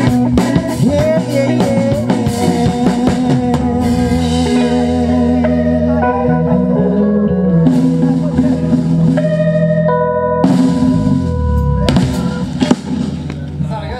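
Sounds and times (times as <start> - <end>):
bass guitar: 0.0 - 13.9
drum kit: 0.0 - 13.9
guitar chords: 0.0 - 13.9.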